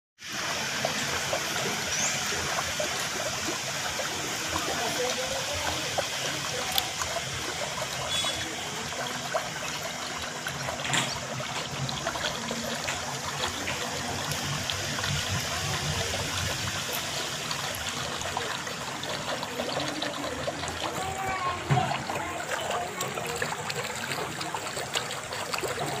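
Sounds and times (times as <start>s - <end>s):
water trickling: 0.2s - 26.0s.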